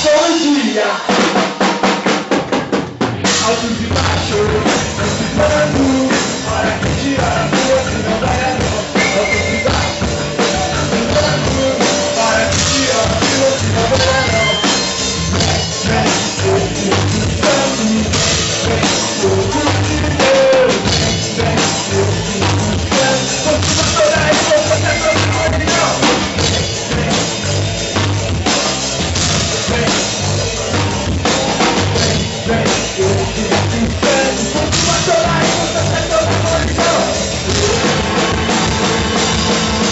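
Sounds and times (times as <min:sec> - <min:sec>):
band music: 0:00.0 - 0:39.9
bass drum and snare beat: 0:00.0 - 0:39.9.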